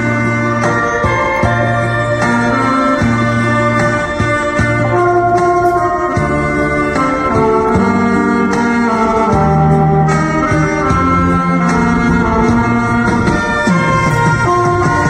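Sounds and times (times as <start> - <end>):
accompaniment track with beat: 0.0 - 15.0
saxophone duet: 0.0 - 15.0.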